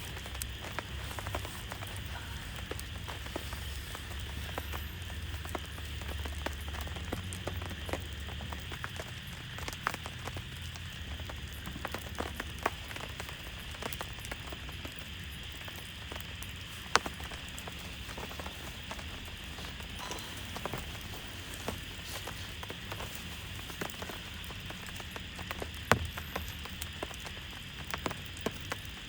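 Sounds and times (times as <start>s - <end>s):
rain falling on a surface: 0.0s - 29.0s.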